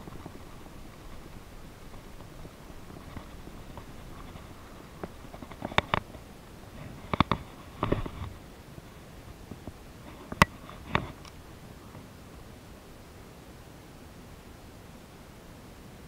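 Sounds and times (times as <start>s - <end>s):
soft rustle: 0.0s - 13.0s.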